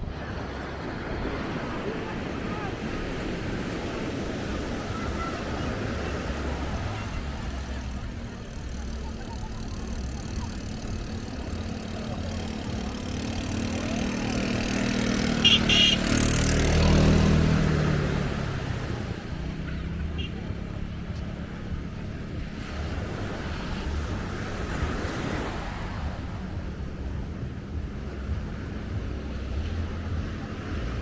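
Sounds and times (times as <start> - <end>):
vehicle engine running: 0.5 - 31.0.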